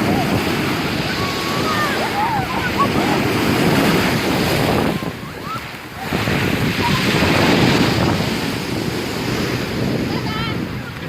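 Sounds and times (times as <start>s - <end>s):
storm waves crashing on shore: 0.0s - 11.0s
wind buffeting microphone: 0.0s - 11.0s.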